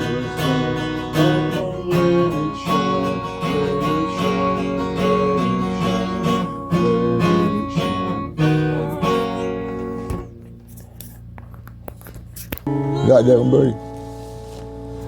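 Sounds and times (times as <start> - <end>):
acoustic guitar strumming chords: 0.0 - 10.7, 12.7 - 15.0.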